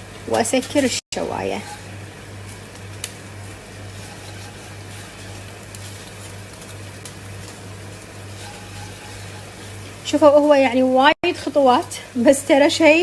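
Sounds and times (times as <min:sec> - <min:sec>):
electric grill humming: 0:00.0 - 0:13.0.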